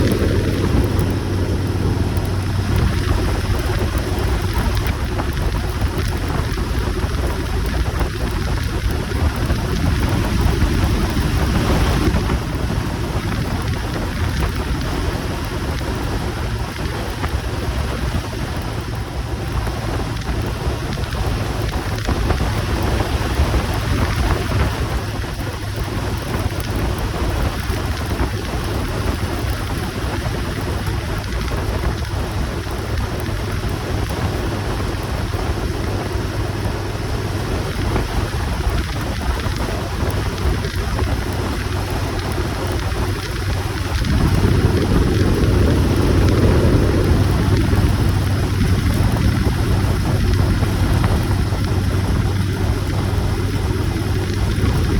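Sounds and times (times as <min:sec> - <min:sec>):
wind and road noise on motorcycle: 0:00.0 - 0:54.9.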